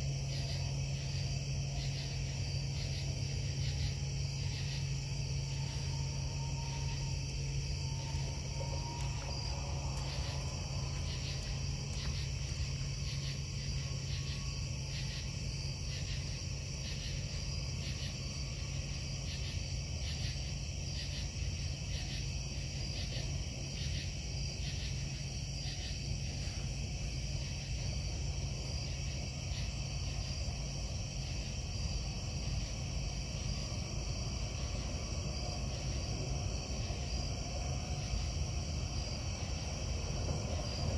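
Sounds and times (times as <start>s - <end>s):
insect chirping in pulses: 0.0s - 40.9s
insects trilling: 0.0s - 40.9s
low industrial hum: 0.0s - 40.9s.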